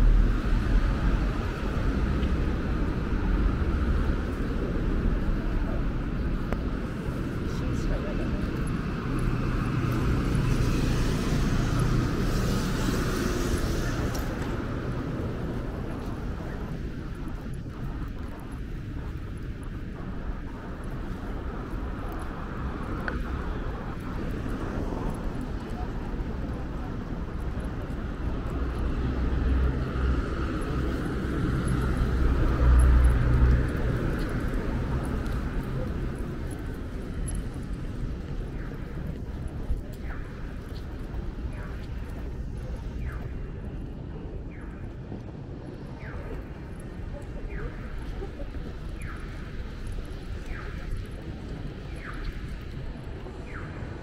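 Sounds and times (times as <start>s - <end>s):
busy street traffic: 0.0s - 54.0s
rumble of passing cars: 0.0s - 54.0s.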